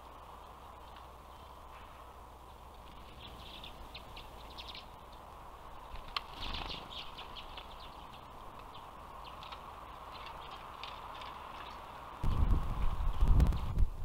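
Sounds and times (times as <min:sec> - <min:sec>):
small birds chirping: 0:00.0 - 0:12.2
steady background hiss: 0:00.0 - 0:14.0.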